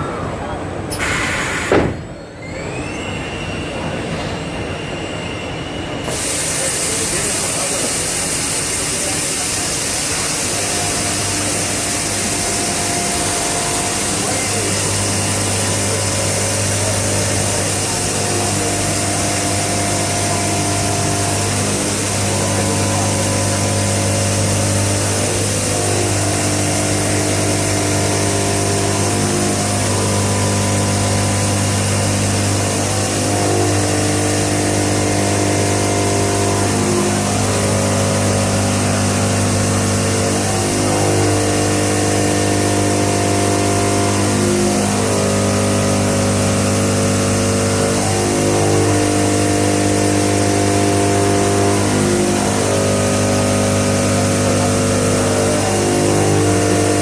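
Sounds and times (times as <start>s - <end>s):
machine humming and hissing: 0.0s - 57.0s.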